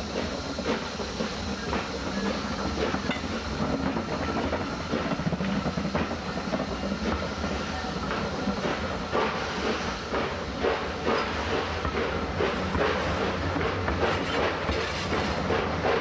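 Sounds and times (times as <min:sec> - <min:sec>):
steam locomotive working hard: 0:00.0 - 0:16.0.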